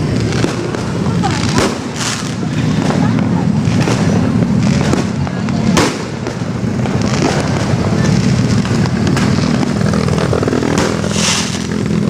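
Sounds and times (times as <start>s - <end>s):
fireworks popping: 0.0s - 12.0s
hissing whoosh: 0.0s - 12.0s
steady low rumble: 0.0s - 12.0s.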